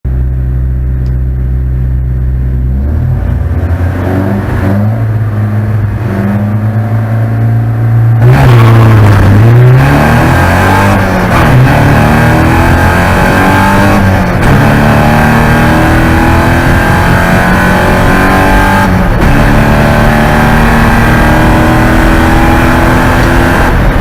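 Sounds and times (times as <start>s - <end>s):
race car engine revving: 2.5s - 24.0s.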